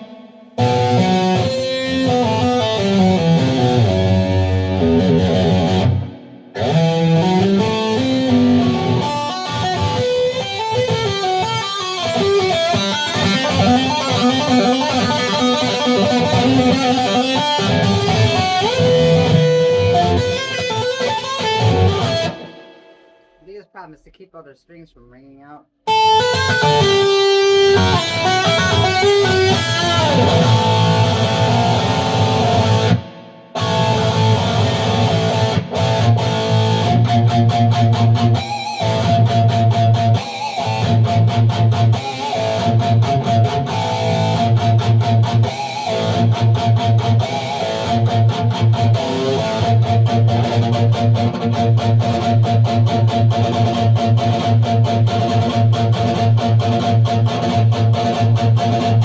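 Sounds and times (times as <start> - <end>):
electric guitar fast picking: 0.0 - 23.1, 25.9 - 59.0.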